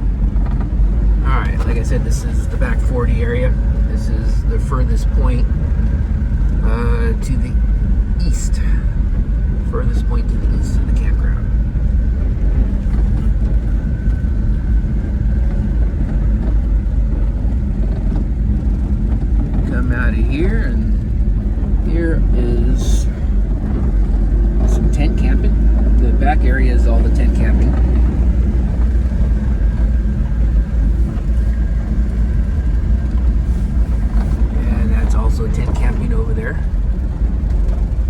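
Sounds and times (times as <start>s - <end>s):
pickup truck driving: 0.0s - 38.0s.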